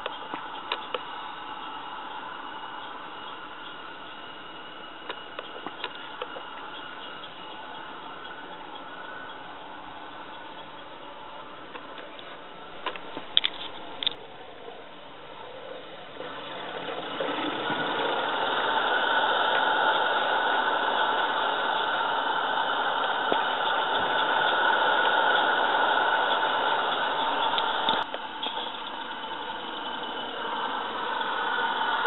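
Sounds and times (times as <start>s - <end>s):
steam locomotive hiss: 0.0s - 12.8s, 15.4s - 32.0s.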